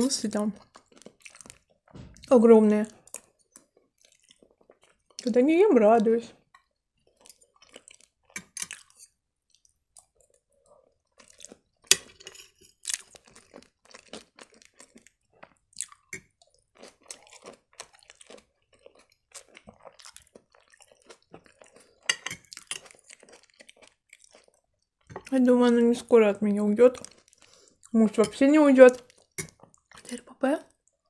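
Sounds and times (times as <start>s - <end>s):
chewing and crunching: 0.4s - 5.3s, 6.0s - 25.4s, 26.8s - 31.0s.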